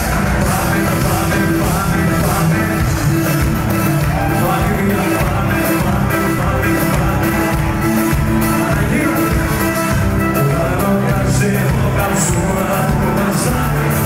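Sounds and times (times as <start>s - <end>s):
loud music with singing: 0.0s - 14.0s.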